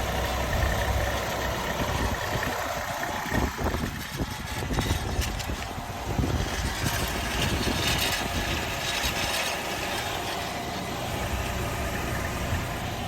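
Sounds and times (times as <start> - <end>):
car engine running: 0.0 - 13.0
mechanical rattling: 2.1 - 12.8.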